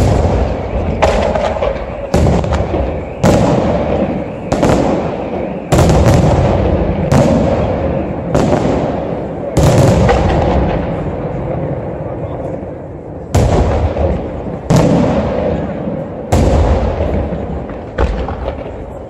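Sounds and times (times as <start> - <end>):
rumbling echo: 0.0 - 19.0.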